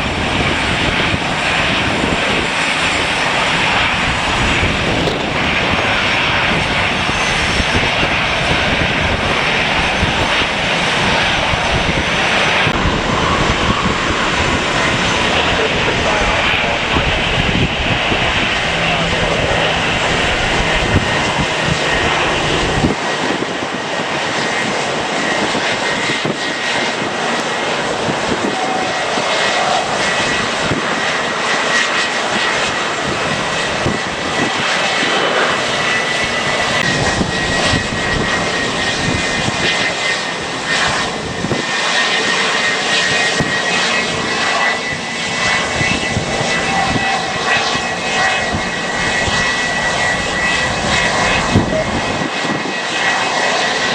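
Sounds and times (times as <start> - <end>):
high engine whine: 0.0 - 53.9
jet engines roaring: 0.0 - 53.9
wind buffeting microphone: 0.0 - 53.9.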